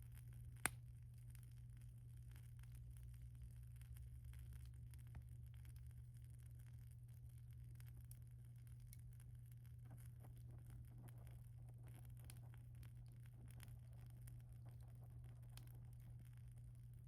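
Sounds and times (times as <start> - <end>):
faint wood fire crackling: 0.0 - 17.0.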